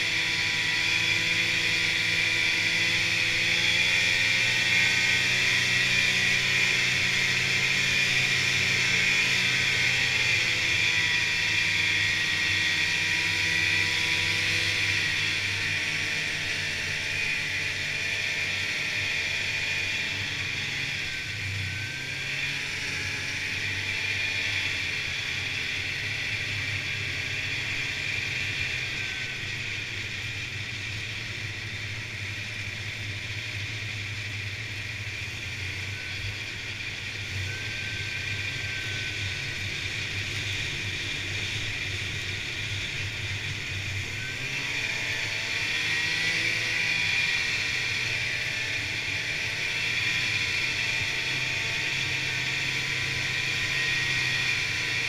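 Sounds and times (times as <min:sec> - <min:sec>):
snowmobile engine drone: 0:00.0 - 0:55.0.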